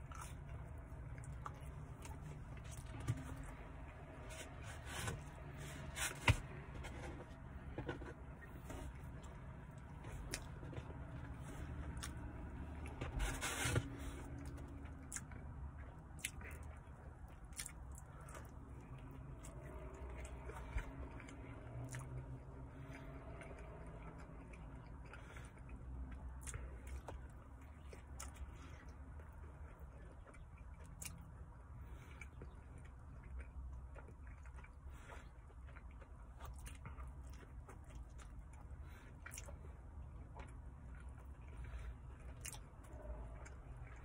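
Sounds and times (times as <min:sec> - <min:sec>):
person chewing pizza: 0:00.0 - 0:44.0.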